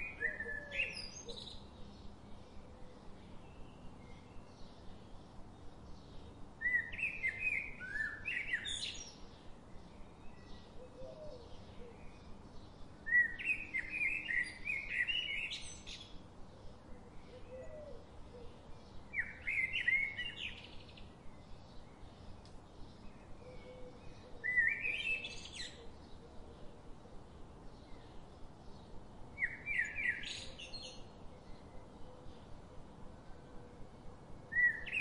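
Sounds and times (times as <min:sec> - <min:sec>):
faint bird chirping: 0:00.0 - 0:35.0
songbird singing: 0:00.0 - 0:35.0.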